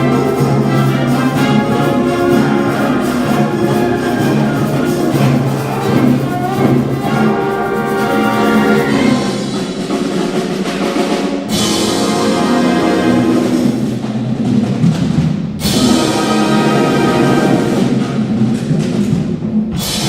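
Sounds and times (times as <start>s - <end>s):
loud accented band hits: 0.0s - 20.0s
wind band playing chords: 0.0s - 20.0s.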